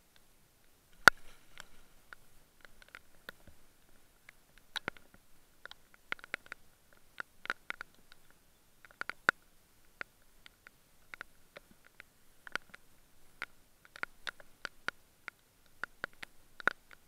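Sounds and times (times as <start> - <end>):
small handling clicks and taps: 0.1 - 17.0.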